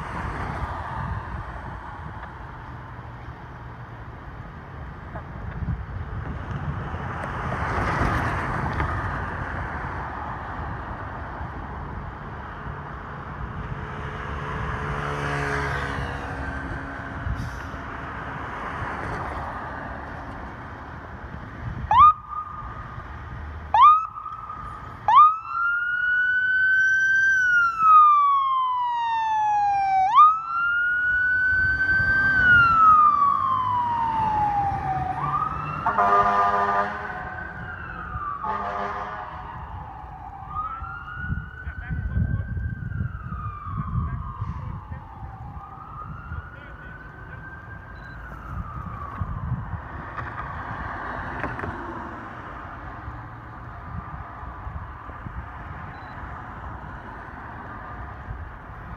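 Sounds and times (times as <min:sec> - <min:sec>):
engine and street rumble: 0:00.0 - 0:58.9
fire engine siren: 0:07.2 - 0:58.9.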